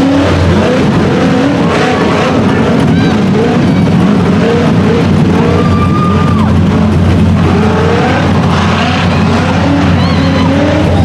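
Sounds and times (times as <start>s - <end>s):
buggy engine revving under load: 0.0s - 11.0s.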